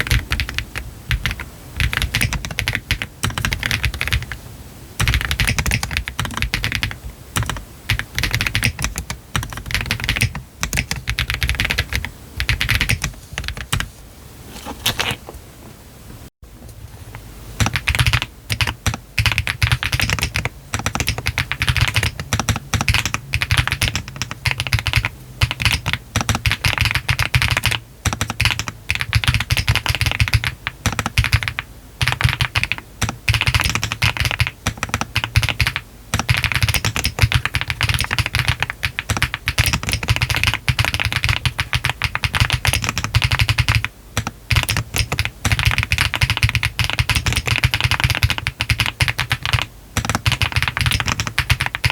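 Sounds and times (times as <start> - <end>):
mechanical keyboard typing: 0.0 - 4.4, 5.0 - 13.9, 17.6 - 51.9.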